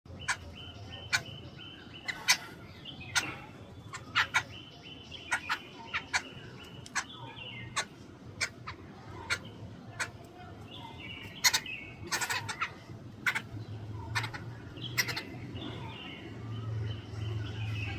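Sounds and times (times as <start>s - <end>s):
babbler birds calling harshly: 0.1s - 17.9s
rasping bird chatter: 0.1s - 17.9s.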